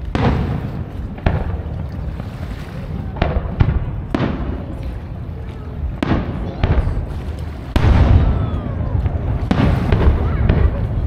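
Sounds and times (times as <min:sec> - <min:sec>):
fireworks booming with echo: 0:00.0 - 0:11.0.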